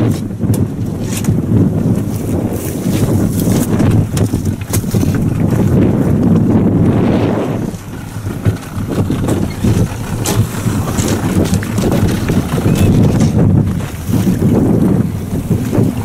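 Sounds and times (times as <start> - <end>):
water noise: 0.0 - 16.0
wind buffeting microphone: 0.0 - 16.0.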